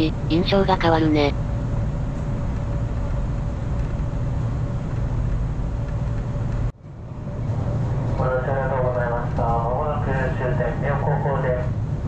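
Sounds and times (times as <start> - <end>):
faint steady hum: 0.0 - 12.0
train wheels rumbling on track: 0.0 - 12.0.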